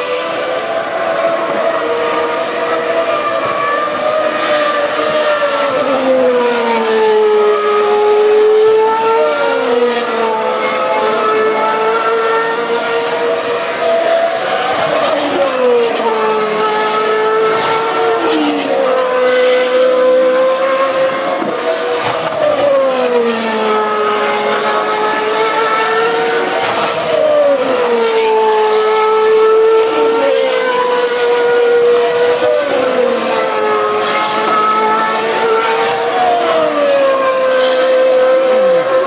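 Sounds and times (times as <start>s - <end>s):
distant race car engines: 0.0s - 39.0s
race cars passing: 0.0s - 39.0s.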